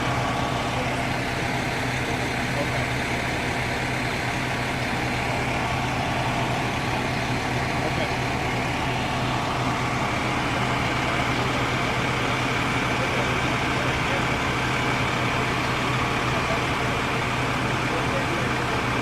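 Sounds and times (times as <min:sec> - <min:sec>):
fire truck engine idling: 0:00.0 - 0:19.0.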